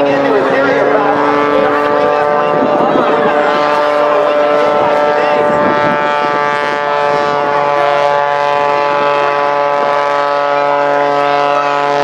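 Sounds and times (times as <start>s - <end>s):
biplane engine droning: 0.0s - 12.0s.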